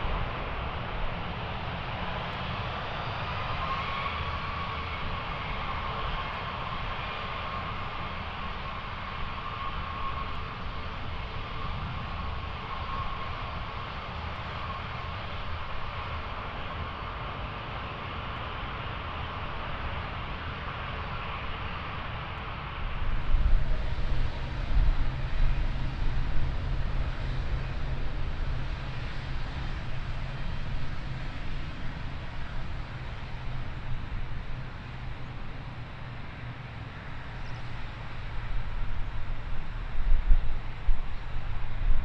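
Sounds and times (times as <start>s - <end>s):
airliner departing low rumble: 0.0s - 19.4s, 20.1s - 42.0s
jet engine hiss and whine: 0.0s - 42.0s.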